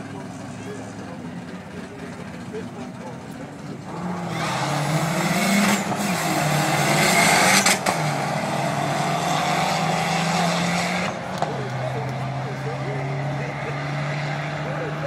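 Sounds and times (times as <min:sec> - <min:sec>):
drag cars accelerating hard: 0:00.0 - 0:15.0.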